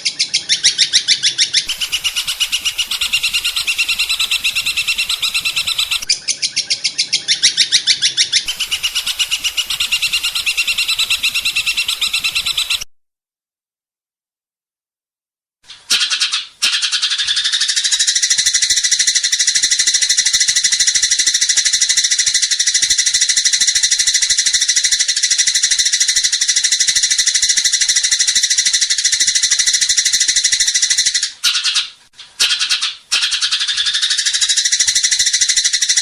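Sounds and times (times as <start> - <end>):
songbird rattling trill: 0.0 - 12.8, 15.8 - 36.0.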